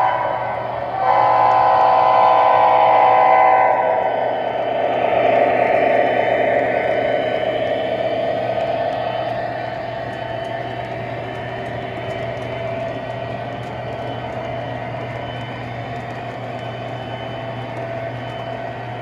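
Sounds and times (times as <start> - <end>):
model train wheels rumbling on rails: 0.0 - 19.0.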